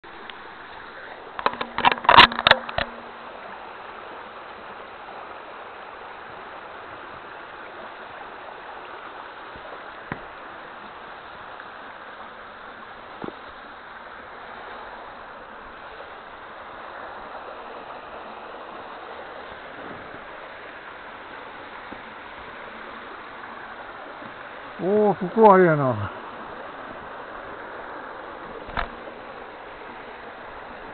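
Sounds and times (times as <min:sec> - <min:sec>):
mountain stream over rocks: 0:00.0 - 0:30.9.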